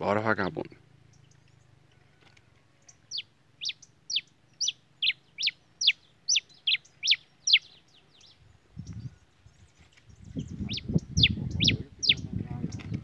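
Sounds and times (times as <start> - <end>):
finch singing sharp notes: 0.8 - 1.9, 2.8 - 13.0.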